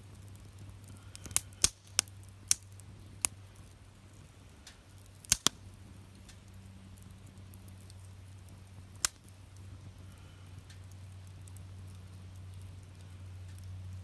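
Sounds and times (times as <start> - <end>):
firewood crackling: 0.0 - 14.0
sharp pops from fire: 0.0 - 14.0.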